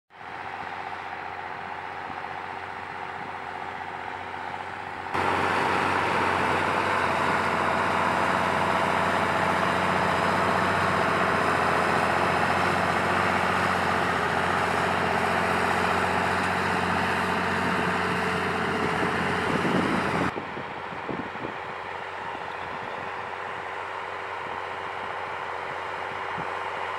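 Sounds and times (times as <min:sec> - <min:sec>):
tractor diesel engine under load: 0:00.1 - 0:26.9.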